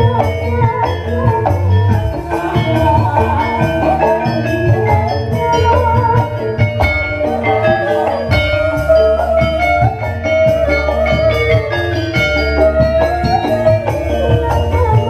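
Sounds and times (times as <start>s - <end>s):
live band music: 0.0s - 15.0s
woman singing long held notes: 0.0s - 15.0s.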